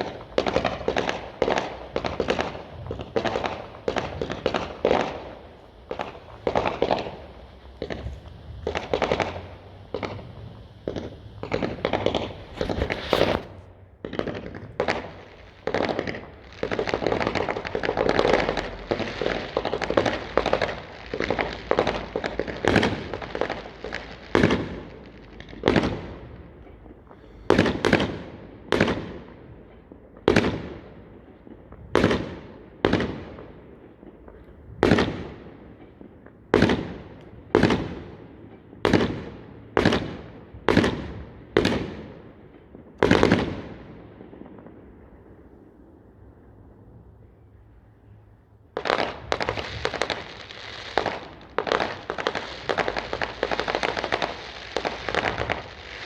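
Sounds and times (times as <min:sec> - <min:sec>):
firework crackling: 0:00.0 - 0:46.2, 0:48.7 - 0:56.0
firework bangs: 0:00.0 - 0:46.5, 0:48.7 - 0:56.0.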